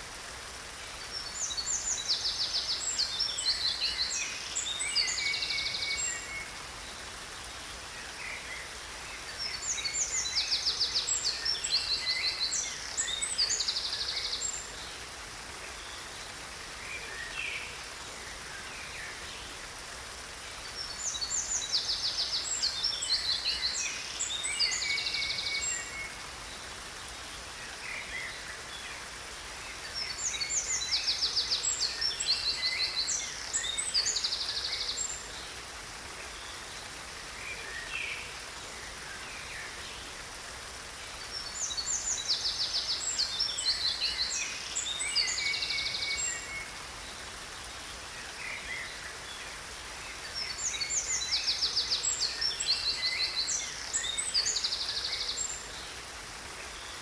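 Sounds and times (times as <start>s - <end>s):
waterfall hiss: 0.0s - 57.0s.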